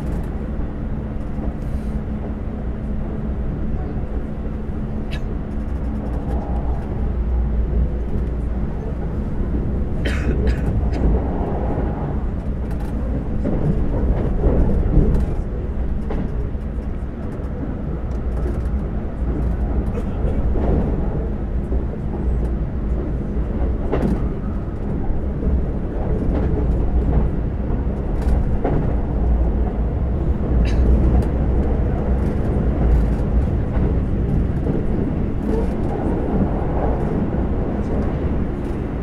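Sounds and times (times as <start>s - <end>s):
rumble of wheels on rail: 0.0s - 39.0s.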